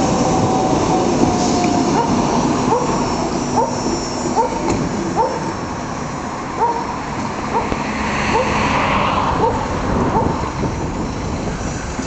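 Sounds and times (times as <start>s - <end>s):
light-rail train rumbling: 0.0s - 12.0s.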